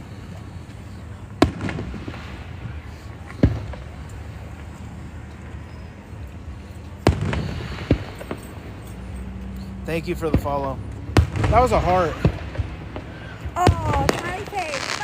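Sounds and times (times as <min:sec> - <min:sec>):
fireworks bangs: 0:00.0 - 0:05.2, 0:06.6 - 0:15.0
fireworks crackle: 0:00.0 - 0:15.0.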